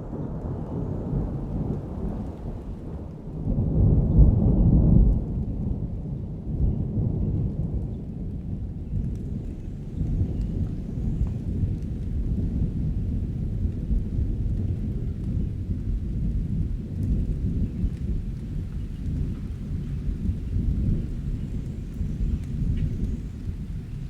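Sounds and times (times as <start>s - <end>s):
low rumble of thunder: 0.0s - 24.0s
steady rain: 0.0s - 24.0s.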